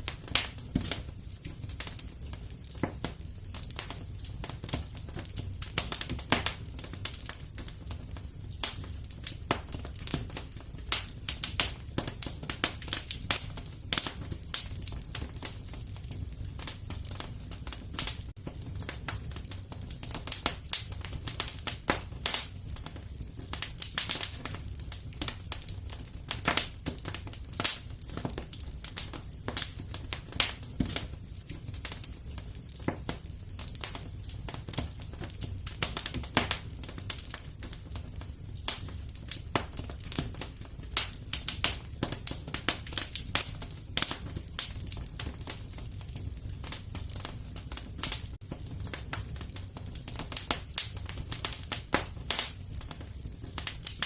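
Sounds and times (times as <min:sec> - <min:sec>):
fire crackling and popping: 0:00.0 - 0:54.0
low rumble of burning: 0:00.0 - 0:54.0.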